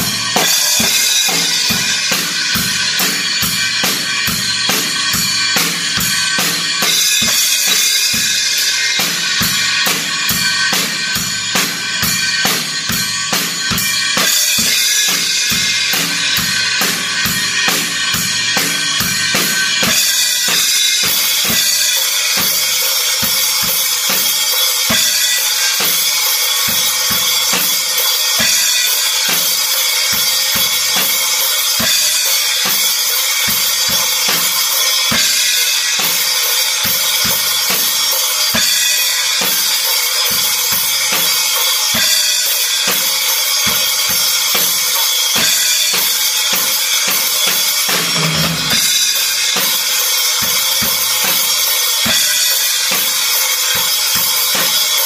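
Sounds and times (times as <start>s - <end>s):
cymbals ringing: 0.0s - 55.0s
rock drum beat: 0.0s - 55.0s.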